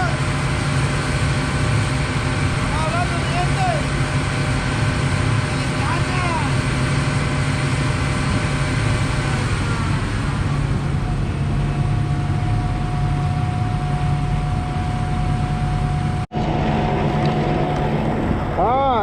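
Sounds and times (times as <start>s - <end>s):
concrete pump truck engine: 0.0s - 19.0s
steady mechanical whine: 0.0s - 19.0s.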